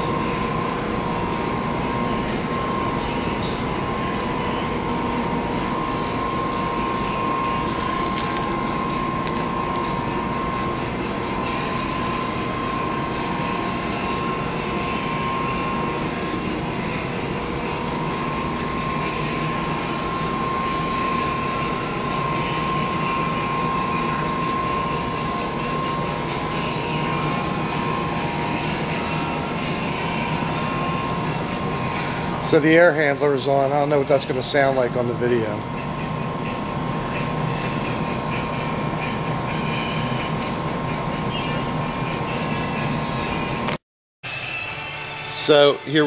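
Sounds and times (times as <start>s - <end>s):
air handler drone: 0.0s - 46.0s
constant machine whine: 0.0s - 46.0s.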